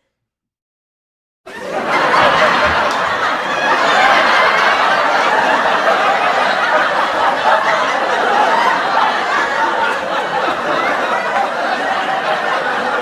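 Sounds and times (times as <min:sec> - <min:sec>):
audience laughing: 0:01.5 - 0:13.0.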